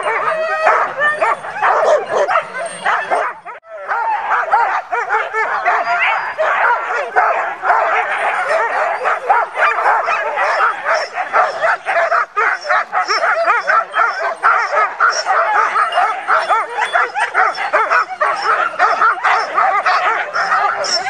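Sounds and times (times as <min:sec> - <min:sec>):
dogs barking and yipping: 0:00.0 - 0:21.0.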